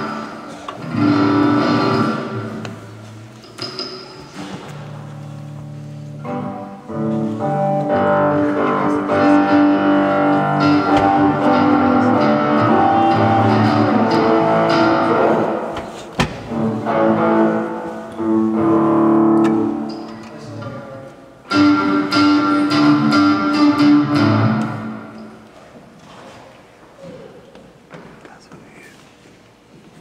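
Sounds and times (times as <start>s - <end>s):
live band with guitar and bass: 0.0s - 25.5s.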